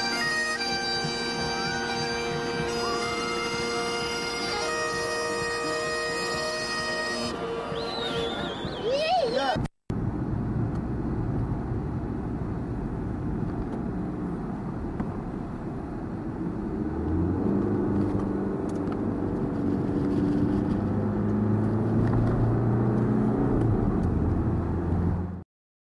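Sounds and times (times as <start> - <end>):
engine rumbling: 0.0 - 25.4.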